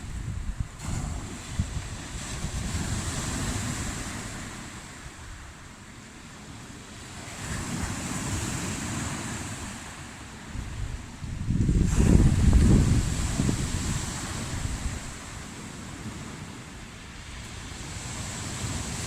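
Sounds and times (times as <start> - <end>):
wind buffeting microphone: 0.0 - 5.7, 6.9 - 19.0
waves breaking: 0.0 - 19.0.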